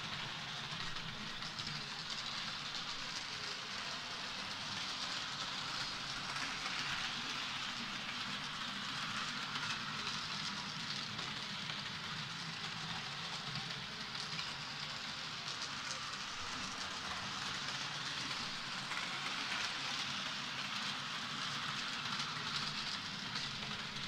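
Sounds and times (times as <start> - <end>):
small wheels rattling on rails: 0.0 - 24.0.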